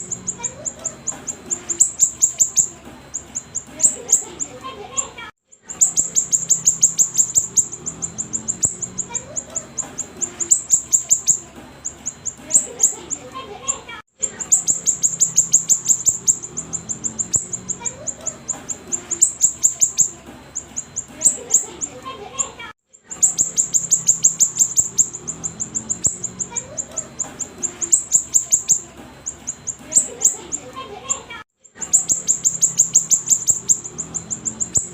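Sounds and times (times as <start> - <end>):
bird singing sharp high chirps: 0.0 - 4.6, 5.6 - 13.3, 14.2 - 22.0, 23.0 - 30.7, 31.7 - 34.9.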